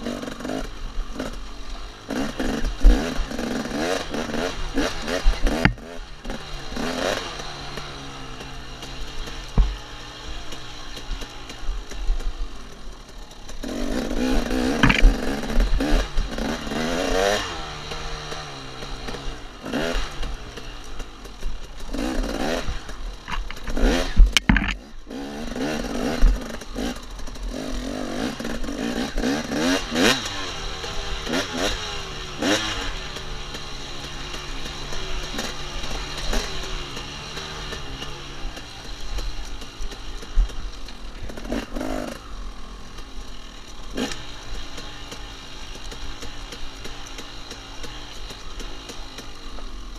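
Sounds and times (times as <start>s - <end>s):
dirt bike engine revving: 0.0s - 49.9s
bike knocking and clattering: 0.4s - 49.8s.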